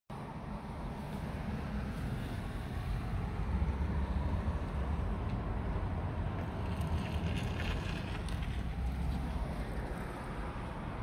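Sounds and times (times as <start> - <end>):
traffic rumble: 0.1 - 11.0.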